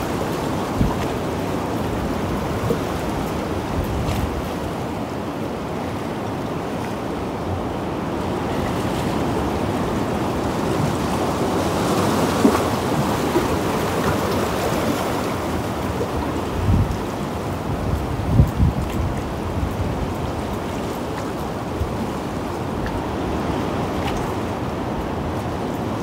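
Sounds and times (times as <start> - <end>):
waves washing against rocks: 0.0 - 26.0.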